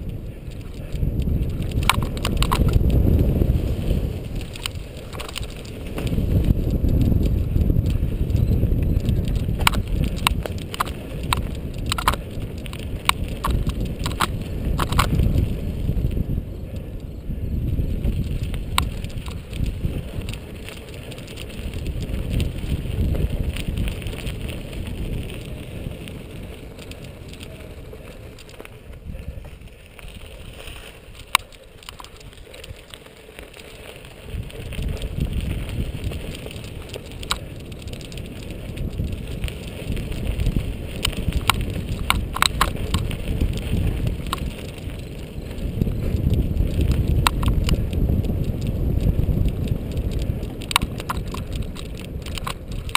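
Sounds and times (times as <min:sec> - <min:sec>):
bike clicks and knocks: 0:00.0 - 0:16.0, 0:18.0 - 0:52.9
tyres on gravel: 0:00.0 - 0:52.9
wind rushing on microphone: 0:00.0 - 0:52.9.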